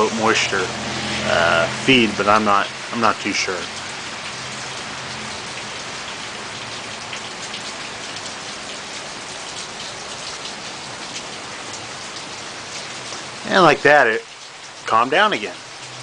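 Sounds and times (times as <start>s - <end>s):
heavy rain pouring: 0.0s - 16.0s
raindrops ticking on surfaces: 0.0s - 16.0s.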